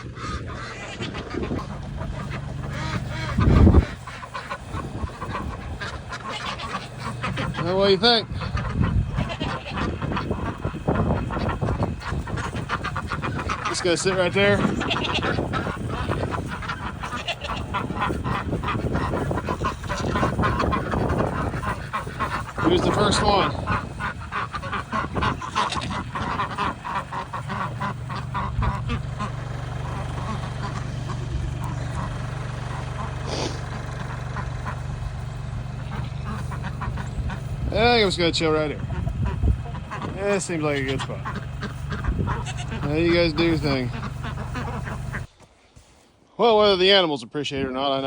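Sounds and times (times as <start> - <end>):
low steady rumble: 0.0 - 45.4
poultry honking calls: 0.0 - 45.4
tractor engine idling: 0.0 - 45.4.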